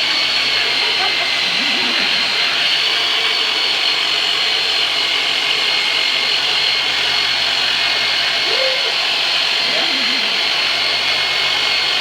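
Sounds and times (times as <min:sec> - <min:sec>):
electric massager motor whine: 0:00.0 - 0:12.0.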